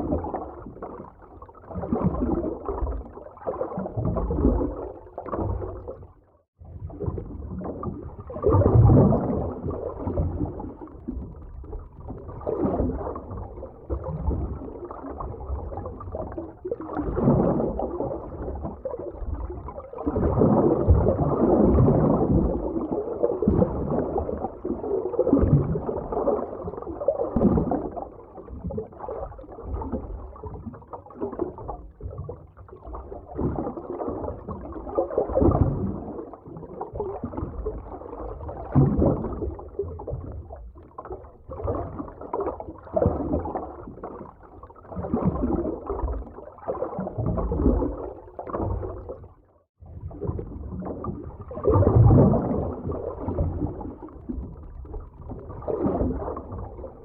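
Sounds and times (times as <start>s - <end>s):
muffled underwater water gurgling: 0.0s - 57.0s.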